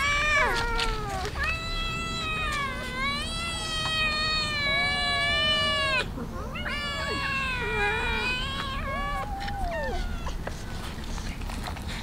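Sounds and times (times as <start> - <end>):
cats meowing: 0.0 - 10.9.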